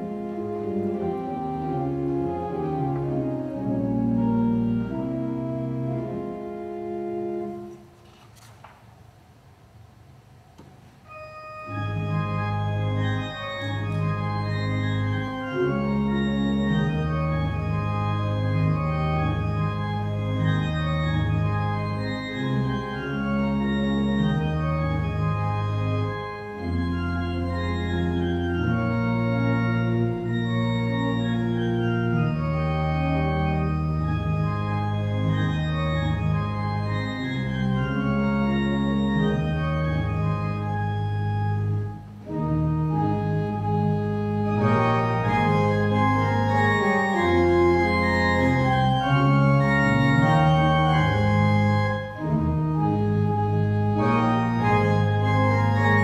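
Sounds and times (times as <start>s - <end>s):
pipe organ chords: 0.0s - 8.1s, 10.6s - 56.0s.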